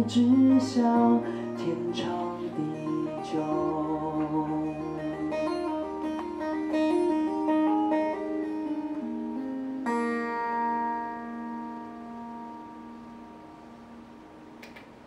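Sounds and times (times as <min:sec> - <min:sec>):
fingerpicked acoustic guitar: 0:00.0 - 0:14.2.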